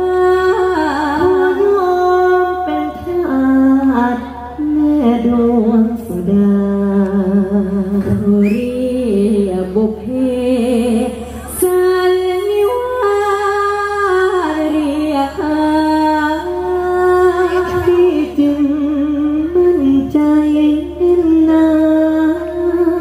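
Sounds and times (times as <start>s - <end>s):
woman singing into microphone: 0.0s - 23.0s.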